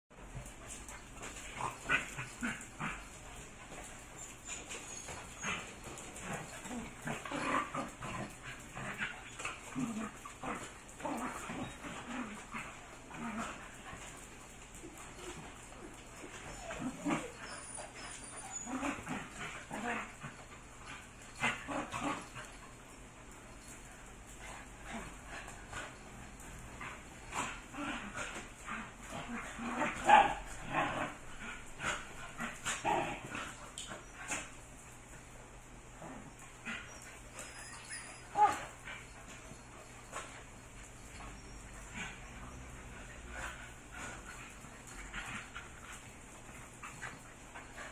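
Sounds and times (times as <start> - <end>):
dogs grumbling and yipping: 0.2 - 47.9.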